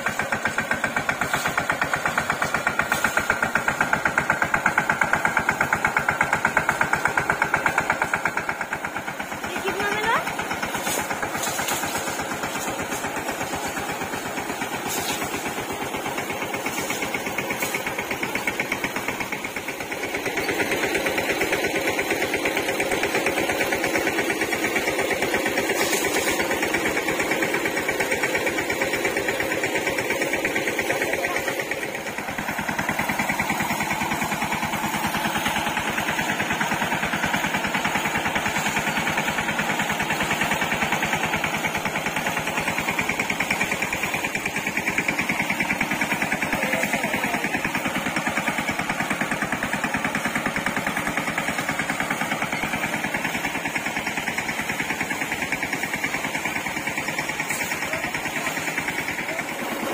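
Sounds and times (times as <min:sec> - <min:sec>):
spray pump pulsing: 0:00.0 - 0:59.9.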